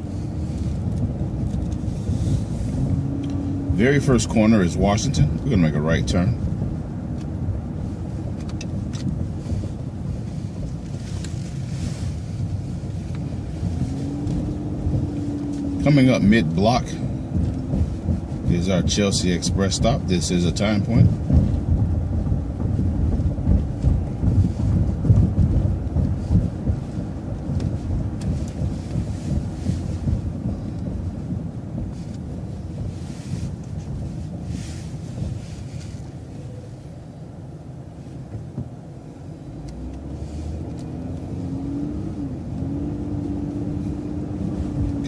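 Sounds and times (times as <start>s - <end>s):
bus engine and road rumble: 0.0s - 45.0s
steady whine: 0.0s - 45.0s.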